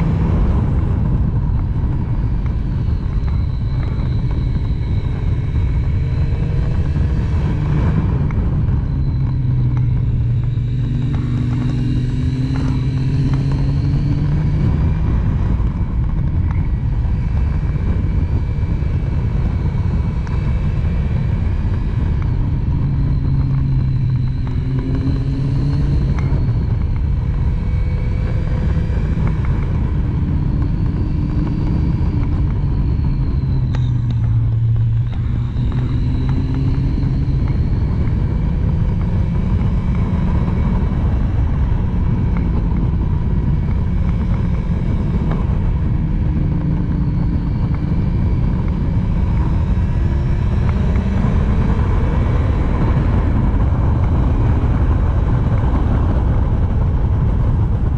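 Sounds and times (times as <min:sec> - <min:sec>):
motorcycle engine revving: 0:00.0 - 0:57.9
wind noise: 0:00.0 - 0:57.9.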